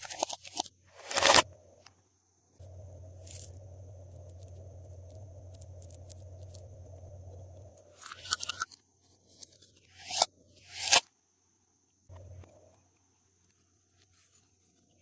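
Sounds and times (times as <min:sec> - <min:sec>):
low steady hum: 0:00.7 - 0:10.8, 0:11.8 - 0:15.0.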